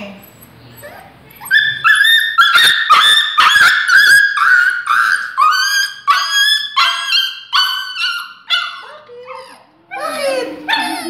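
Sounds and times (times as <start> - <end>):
dog yelping in pain: 0.8 - 11.0.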